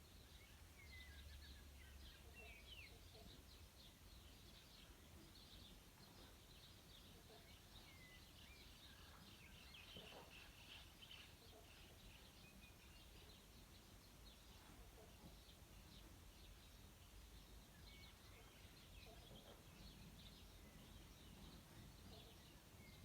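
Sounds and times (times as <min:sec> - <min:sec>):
distant small birds chirping: 0:00.0 - 0:23.0.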